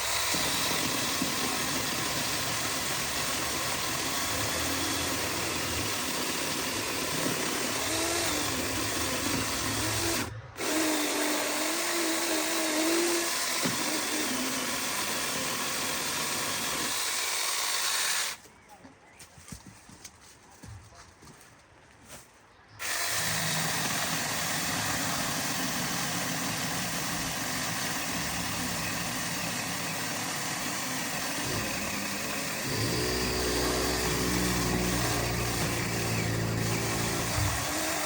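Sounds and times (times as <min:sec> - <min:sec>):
chainsaw cutting branches: 0:00.0 - 0:18.4, 0:22.8 - 0:38.0.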